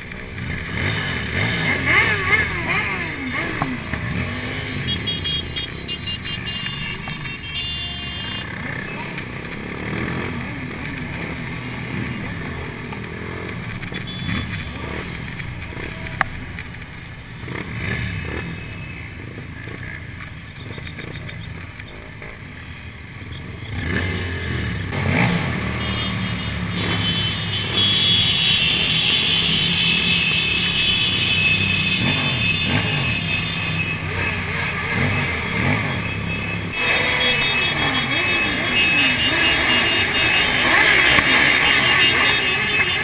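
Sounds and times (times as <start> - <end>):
motorcycle engine revving: 0.0 - 7.4, 8.0 - 16.7, 17.3 - 22.6, 23.4 - 43.0.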